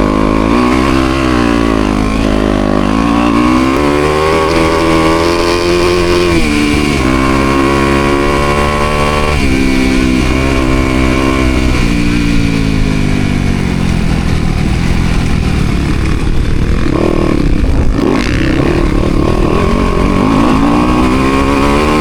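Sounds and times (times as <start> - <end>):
motocross engine revving: 0.0 - 22.0
wind rush on camera: 0.0 - 22.0.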